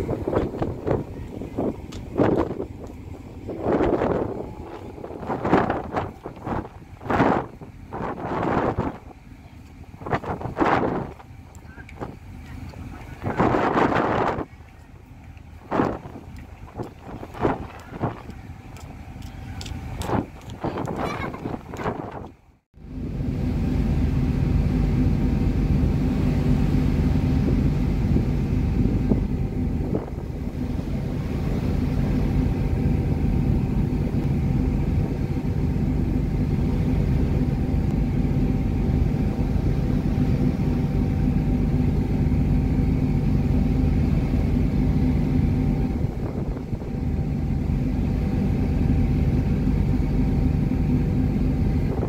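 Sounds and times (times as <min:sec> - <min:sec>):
ferry engines droning: 0:00.0 - 0:52.0.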